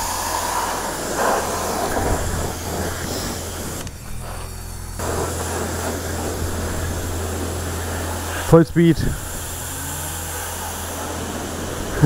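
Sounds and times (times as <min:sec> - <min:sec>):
low machine hum: 0:00.0 - 0:12.0
pressure washer spraying water: 0:00.0 - 0:12.0.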